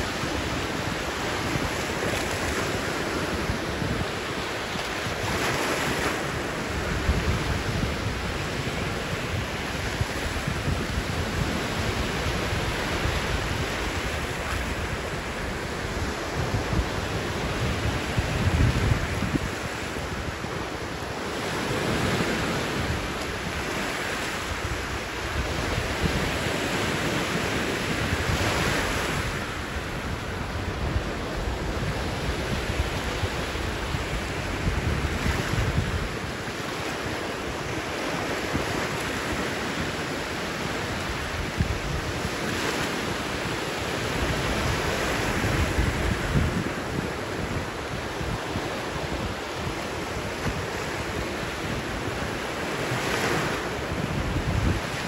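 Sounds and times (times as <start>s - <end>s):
waves washing up a beach: 0.0s - 55.0s
wind buffeting microphone: 0.0s - 55.0s.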